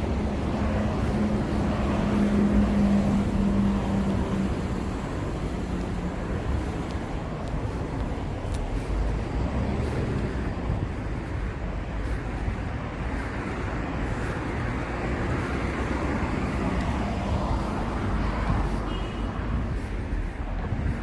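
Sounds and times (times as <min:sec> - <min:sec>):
passing cars: 0:00.0 - 0:21.0.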